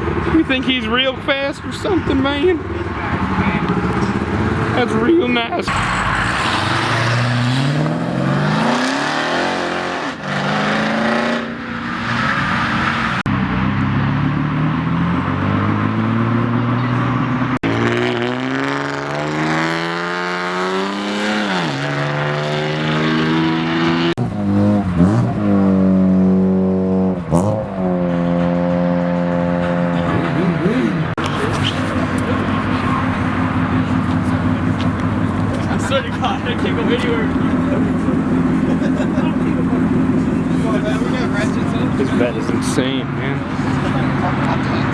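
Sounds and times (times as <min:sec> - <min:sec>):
car engine revving: 0:00.0 - 0:44.9
cars accelerating hard: 0:00.0 - 0:44.9.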